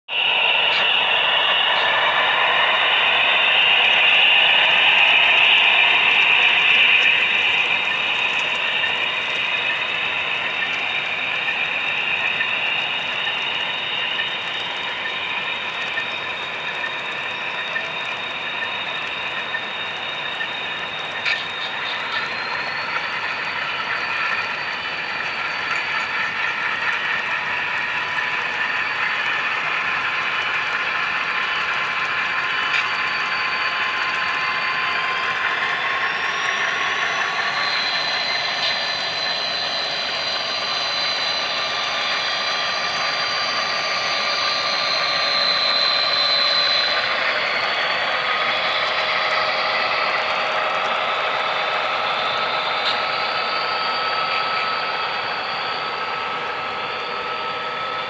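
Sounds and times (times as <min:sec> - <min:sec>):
model locomotive motor whine: 0:00.1 - 0:58.0
small metal wheels rattling on track: 0:04.7 - 0:57.2.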